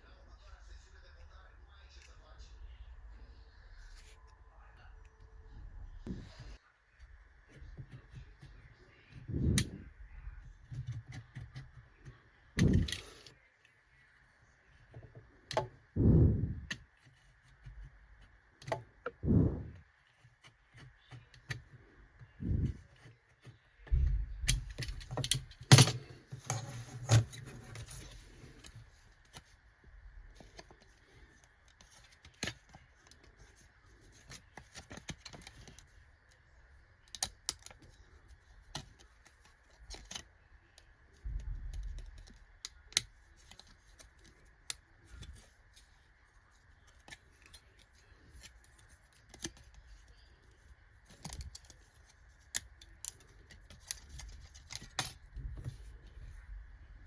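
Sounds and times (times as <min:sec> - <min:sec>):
faint steady whine: 0:00.0 - 0:57.0.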